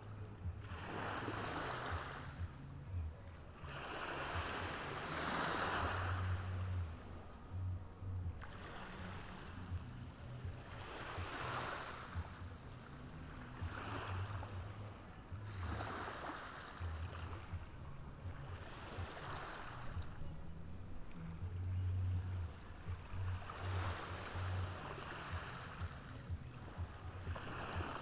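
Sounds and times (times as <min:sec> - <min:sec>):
low steady rumble: 0:00.0 - 0:05.2, 0:05.8 - 0:11.3, 0:12.0 - 0:15.8, 0:16.8 - 0:28.0.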